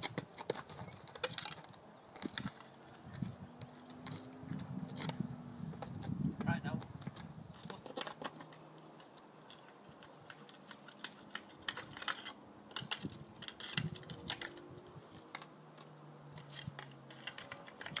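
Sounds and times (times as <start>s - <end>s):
metal climbing gear jangling: 0.0s - 5.2s, 7.0s - 18.0s.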